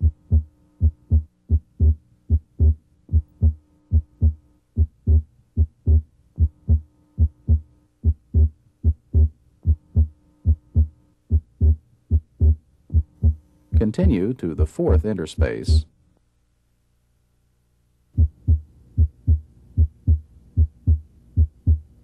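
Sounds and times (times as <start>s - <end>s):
heartbeat through stethoscope: 0.0s - 13.9s, 18.2s - 21.9s
faint steady hum: 0.0s - 22.0s.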